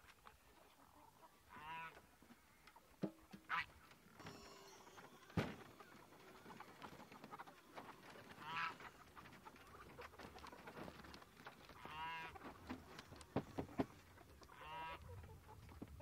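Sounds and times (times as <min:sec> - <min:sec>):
chickens calling: 0:00.1 - 0:16.0.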